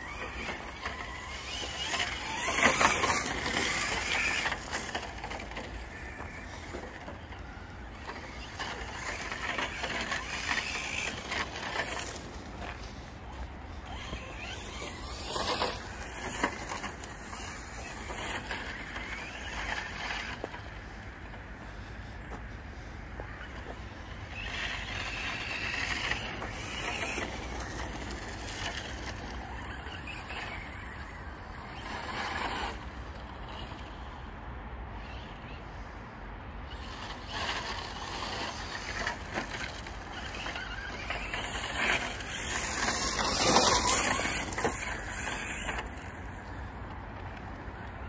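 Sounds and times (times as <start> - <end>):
tyres crunching on gravel: 0.0 - 34.1, 36.7 - 48.0
rc truck motor whine: 0.0 - 48.0.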